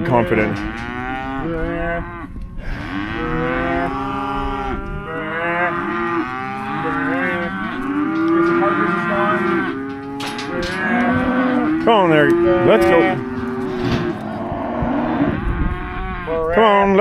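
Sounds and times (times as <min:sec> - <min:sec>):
cattle mooing: 0:00.0 - 0:17.0.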